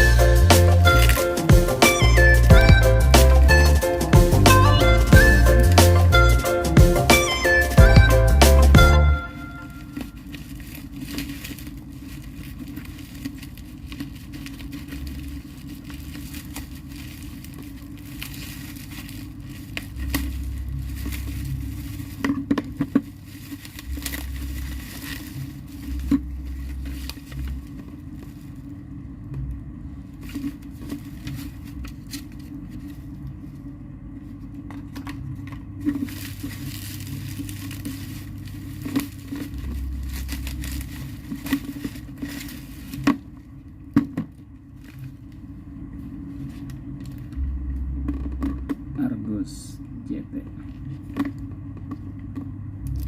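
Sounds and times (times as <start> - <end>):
packaging crinkling and tearing: 0.0 - 29.4, 30.0 - 48.9, 50.6 - 53.0.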